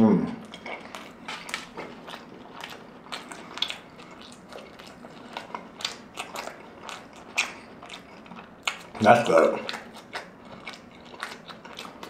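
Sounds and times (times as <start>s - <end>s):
chewing with wet mouth clicks: 0.4s - 12.0s.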